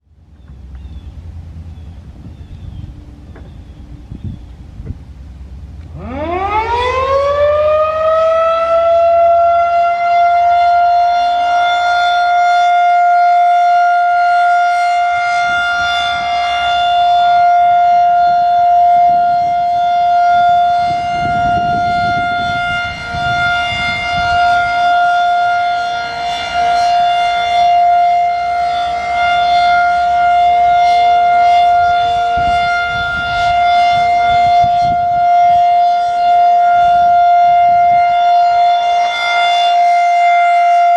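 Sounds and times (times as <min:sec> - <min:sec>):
outdoor warning siren steady tone: 0:05.6 - 0:40.9.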